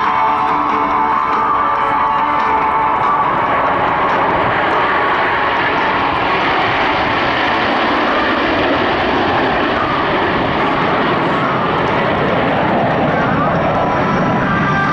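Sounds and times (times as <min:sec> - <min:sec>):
jets flying over: 0:00.0 - 0:14.9.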